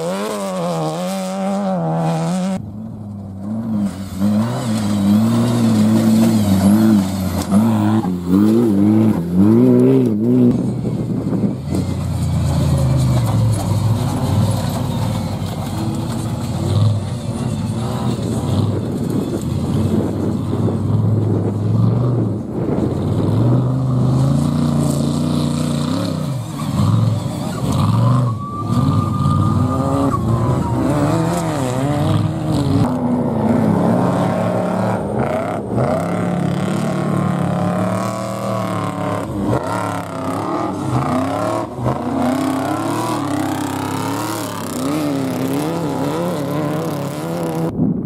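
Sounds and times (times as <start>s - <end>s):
truck engines revving: 0.0s - 48.0s.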